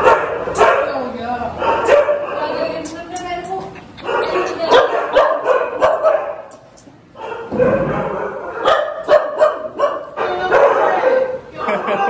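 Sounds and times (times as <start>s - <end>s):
dogs barking and yipping: 0.0s - 2.7s, 3.8s - 12.0s.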